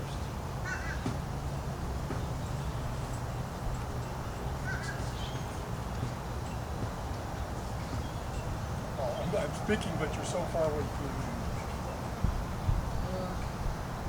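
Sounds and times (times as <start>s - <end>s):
bird calls: 0.0s - 13.7s
steady low rumble: 1.3s - 14.0s.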